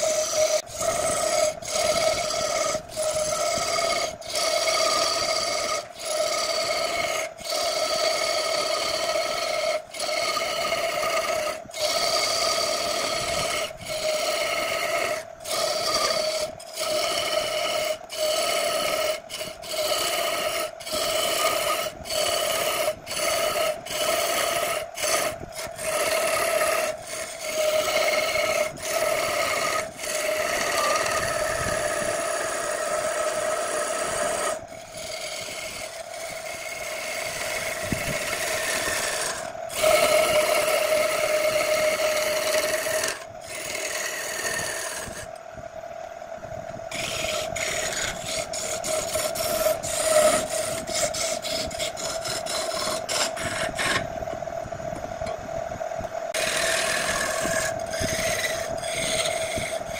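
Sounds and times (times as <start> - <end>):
turning tool scraping wood: 0.0 - 45.4, 46.7 - 54.3, 56.3 - 59.9
wood lathe humming: 0.0 - 55.4, 56.1 - 59.9.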